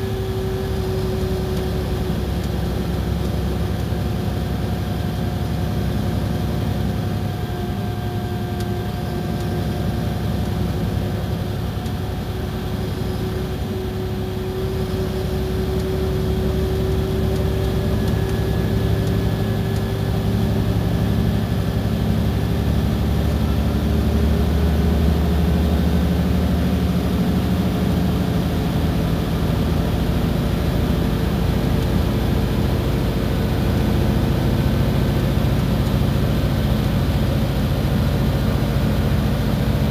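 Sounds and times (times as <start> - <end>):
bus engine drone and whine: 0.0 - 39.9.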